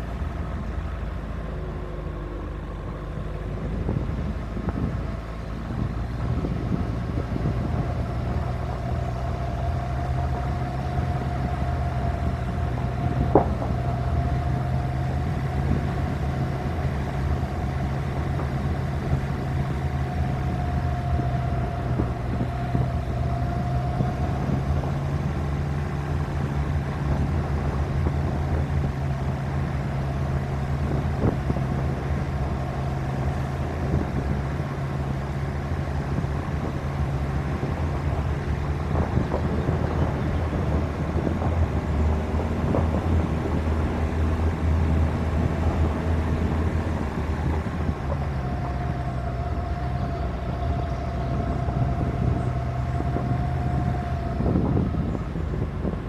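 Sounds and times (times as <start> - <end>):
car engine running: 0.0 - 56.0
tyres rumbling on gravel: 0.0 - 56.0.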